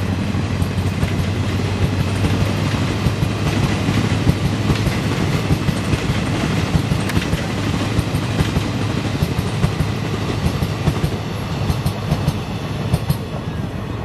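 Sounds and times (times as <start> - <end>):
train wheels clattering over rail joints: 0.0 - 13.4
train low rumble: 0.0 - 14.0.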